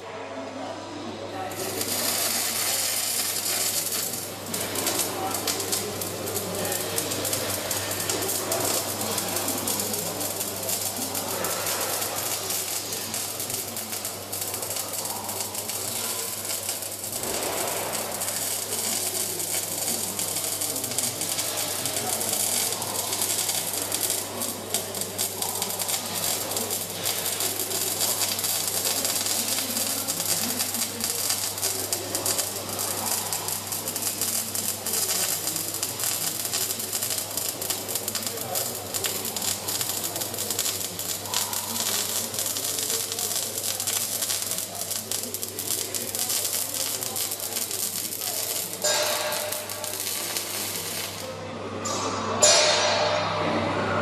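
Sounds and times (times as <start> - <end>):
welding arc crackling and sizzling: 1.3 - 53.2.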